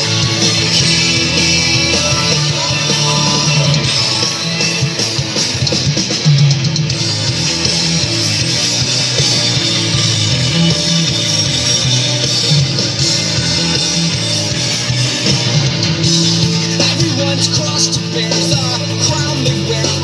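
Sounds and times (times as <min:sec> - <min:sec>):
distorted electric guitar: 0:00.0 - 0:20.0
drum kit: 0:00.0 - 0:20.0
loud rock music: 0:00.0 - 0:20.0.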